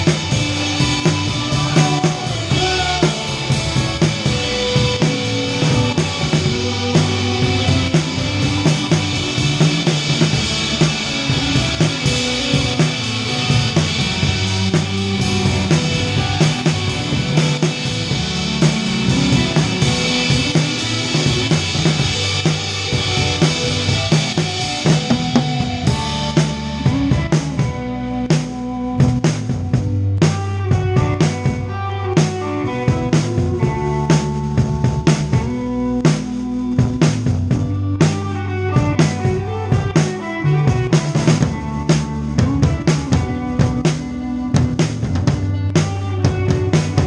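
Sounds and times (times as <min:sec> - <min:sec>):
bass guitar notes: 0:00.0 - 0:47.0
drum kit beat: 0:00.0 - 0:47.0
guitar notes: 0:00.0 - 0:47.0
rock band playing: 0:00.0 - 0:47.0.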